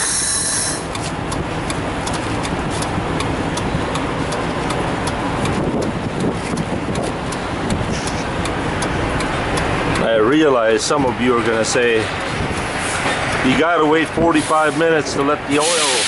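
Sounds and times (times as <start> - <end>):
faint regular ticking: 0.1 - 14.2.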